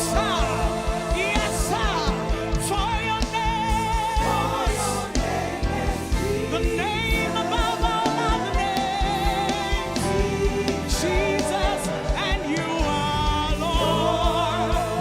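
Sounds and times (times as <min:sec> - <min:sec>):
band playing: 0:00.0 - 0:15.0
singers holding long notes: 0:00.0 - 0:15.0.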